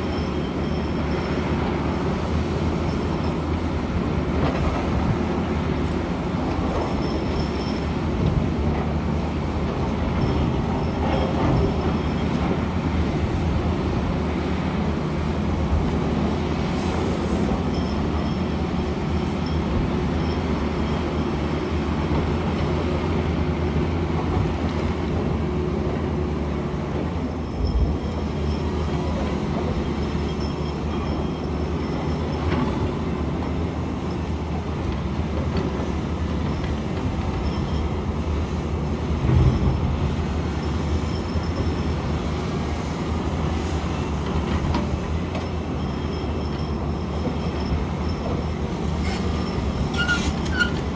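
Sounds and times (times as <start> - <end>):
excavator engine and hydraulic drone: 0.0 - 50.9.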